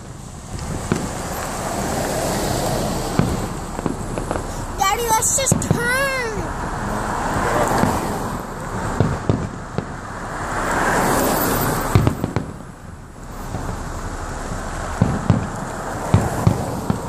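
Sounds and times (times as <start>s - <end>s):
steady wash of noise: 0.0s - 11.0s, 11.6s - 17.0s
fireworks exploding: 0.0s - 17.0s.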